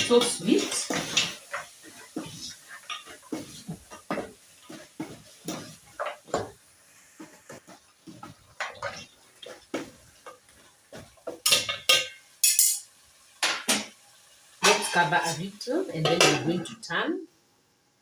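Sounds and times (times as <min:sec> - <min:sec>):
pot and utensils clattering: 0:00.0 - 0:06.6, 0:07.2 - 0:14.0, 0:14.6 - 0:15.4, 0:16.0 - 0:16.8.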